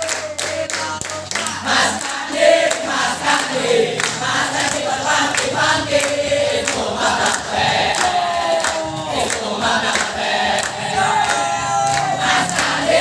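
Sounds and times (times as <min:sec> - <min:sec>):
boys chanting in unison: 0:00.0 - 0:13.0
hand claps: 0:00.0 - 0:13.0.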